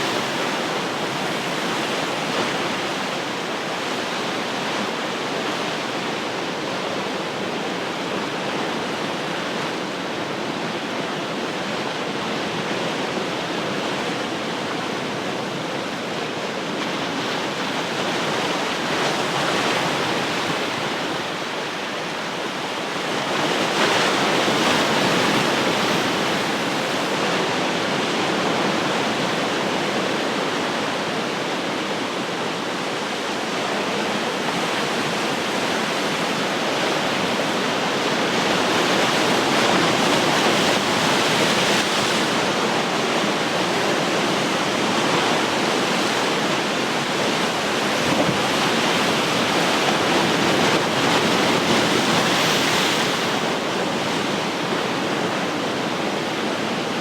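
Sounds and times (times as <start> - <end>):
waves washing on shore: 0.0 - 57.0.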